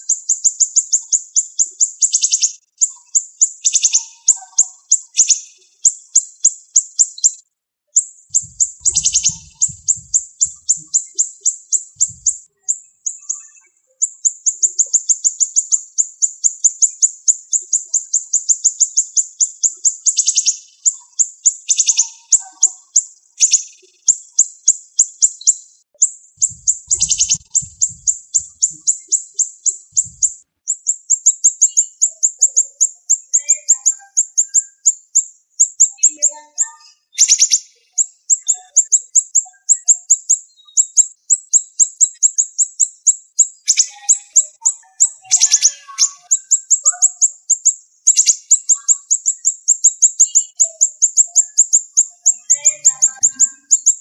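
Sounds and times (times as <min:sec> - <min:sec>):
songbird chirping rapidly: 0:00.0 - 0:54.0.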